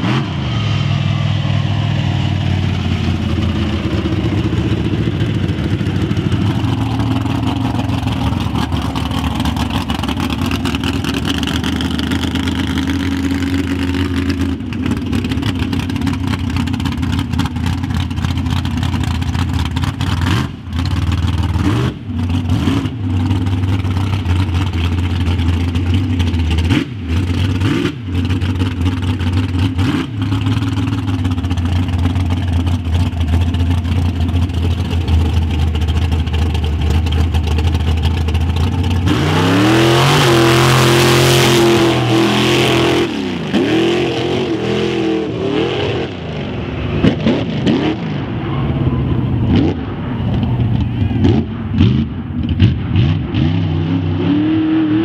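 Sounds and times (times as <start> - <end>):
truck engine running hard: 0.0 - 55.0.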